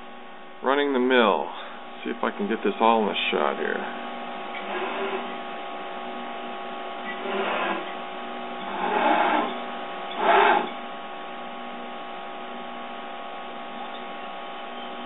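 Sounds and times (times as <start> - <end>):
steady electrical hum: 0.0 - 15.0
milling machine drive motors: 2.3 - 15.0.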